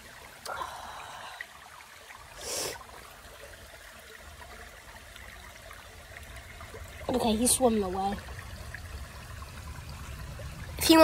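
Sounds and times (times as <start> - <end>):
creek trickling over rocks: 0.0 - 11.0.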